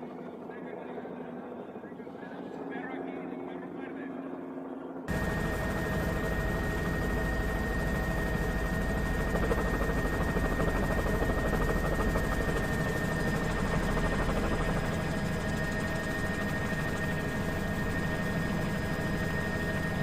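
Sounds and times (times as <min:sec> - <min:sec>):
helicopter high whine: 0:00.0 - 0:20.0
helicopter rotor beat: 0:00.0 - 0:20.0.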